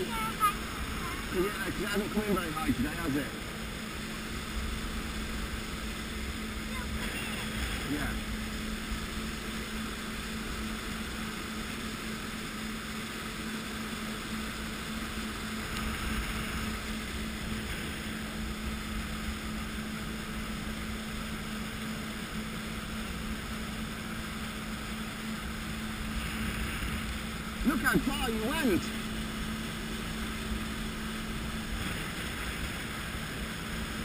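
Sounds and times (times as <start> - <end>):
jet ski engine hum: 0.0 - 34.0
water churning: 0.0 - 34.0.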